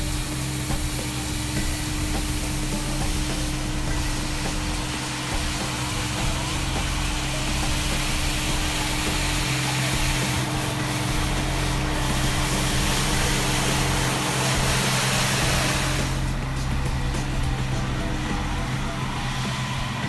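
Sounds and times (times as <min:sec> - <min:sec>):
engine hum: 0:00.0 - 0:20.0
rotary brush sweeping snow: 0:00.0 - 0:20.0.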